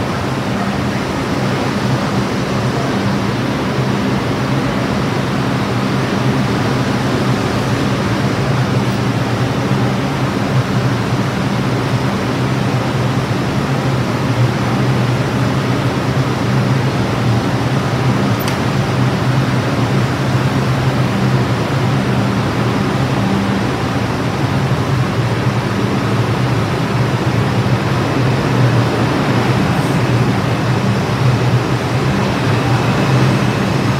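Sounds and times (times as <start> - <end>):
platform crowd ambience: 0.0 - 33.9
subway train hiss and hum: 0.0 - 33.9.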